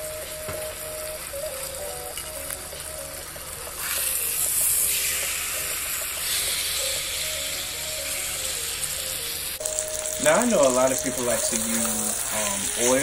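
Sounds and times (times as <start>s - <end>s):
steak sizzling in butter: 0.0s - 13.0s.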